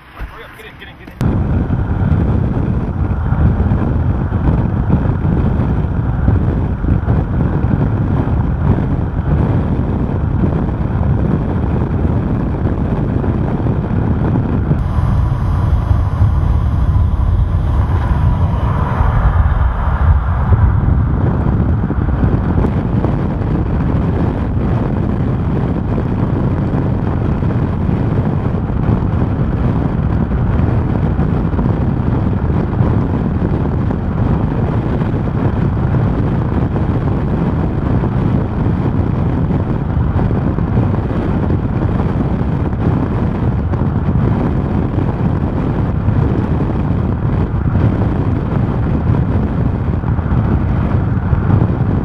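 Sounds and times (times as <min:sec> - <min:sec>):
vehicle road noise: 0:00.0 - 0:52.0
wind buffeting microphone: 0:00.0 - 0:52.0.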